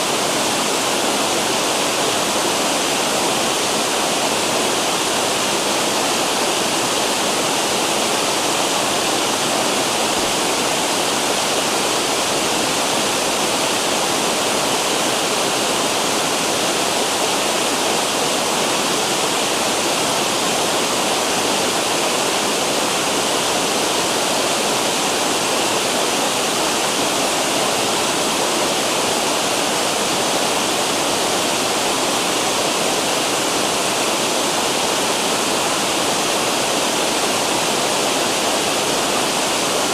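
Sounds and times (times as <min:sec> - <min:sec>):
water rushing down cascades: 0:00.0 - 0:39.9.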